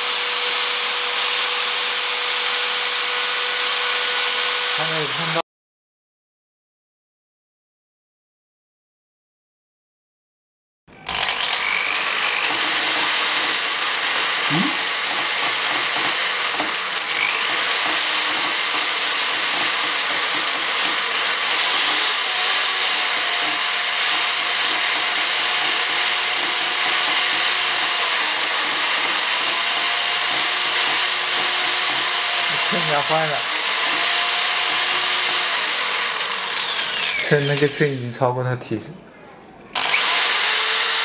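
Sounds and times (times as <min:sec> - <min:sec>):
electric drill grinding glass: 0:00.0 - 0:05.4, 0:11.0 - 0:38.1, 0:39.8 - 0:41.0.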